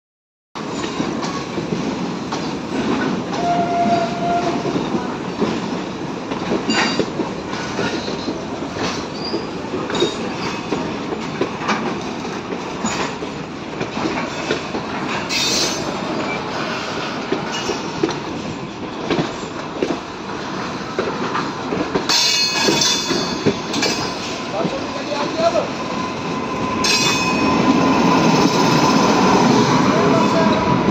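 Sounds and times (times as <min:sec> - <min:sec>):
rail-joint clicks: 0:00.6 - 0:25.6, 0:26.6 - 0:29.0
train rumbling on rails: 0:00.6 - 0:30.9.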